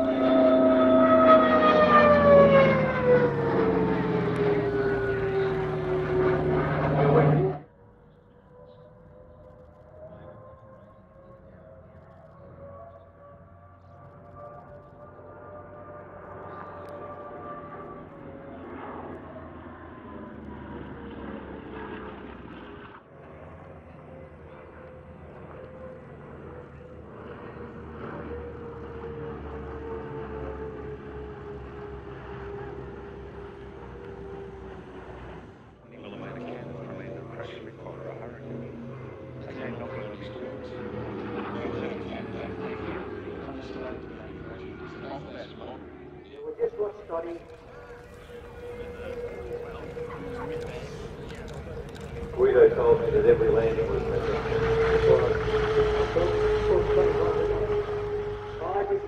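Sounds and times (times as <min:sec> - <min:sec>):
radial engine drone: 0:00.0 - 0:59.0.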